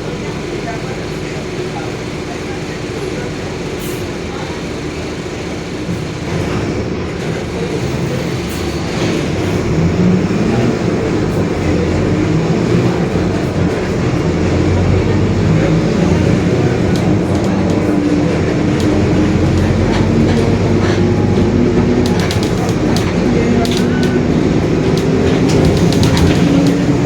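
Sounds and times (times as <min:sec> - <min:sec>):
bus diesel engine droning: 0:00.0 - 0:27.0.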